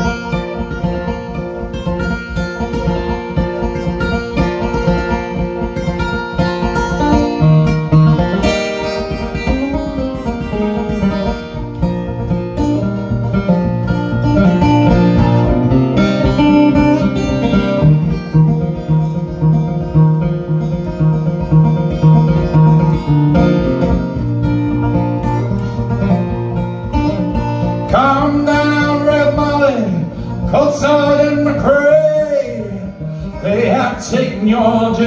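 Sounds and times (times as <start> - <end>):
acoustic guitar picking: 0.0 - 35.0.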